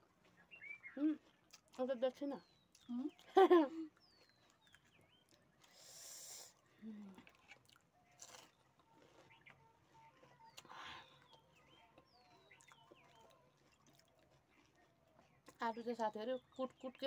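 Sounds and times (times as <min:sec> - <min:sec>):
chewing and crunching food: 0:00.0 - 0:17.0
faint high bird chirps: 0:00.3 - 0:01.5, 0:02.2 - 0:07.2, 0:07.9 - 0:17.0.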